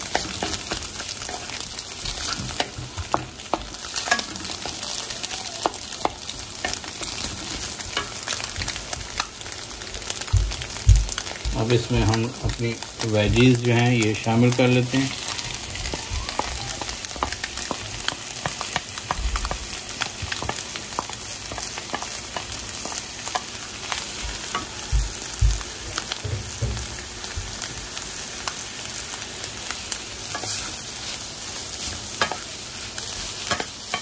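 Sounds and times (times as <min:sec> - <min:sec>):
vegetables and egg sizzling in a wok: 0:00.0 - 0:34.0.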